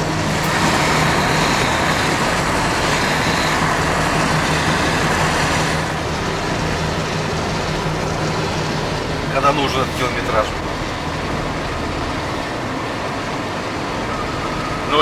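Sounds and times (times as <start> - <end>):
low engine hum: 0.0 - 15.0
road and tyre noise: 0.0 - 15.0.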